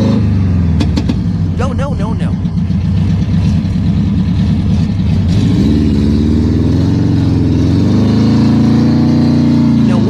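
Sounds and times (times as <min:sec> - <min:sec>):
car engine revving under load: 0:00.0 - 0:10.0.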